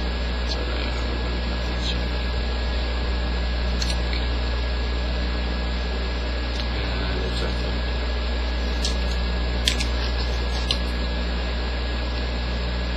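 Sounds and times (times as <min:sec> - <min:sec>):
low electrical hum: 0:00.0 - 0:12.9.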